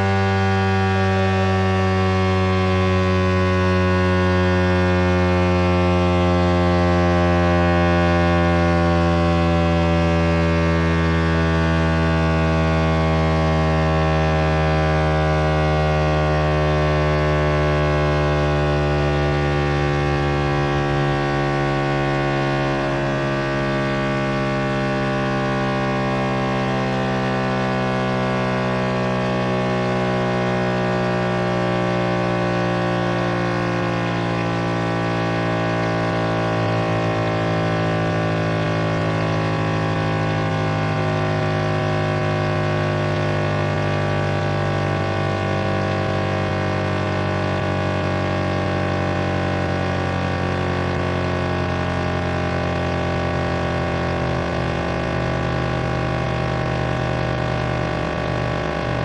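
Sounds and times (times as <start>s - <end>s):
electronic hum tones: 0.0s - 59.0s.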